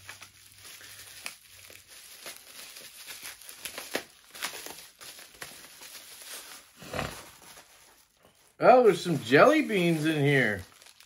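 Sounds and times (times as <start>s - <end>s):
packing material crinkling: 0.0s - 11.0s.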